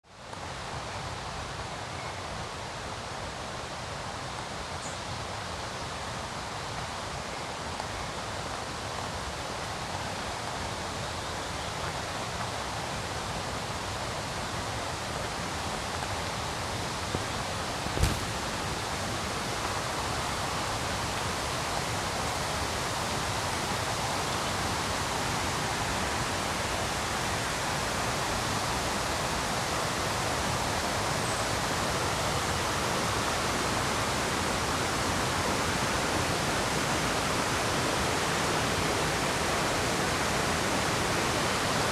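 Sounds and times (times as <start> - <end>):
river rapids rushing: 0.3 - 41.9.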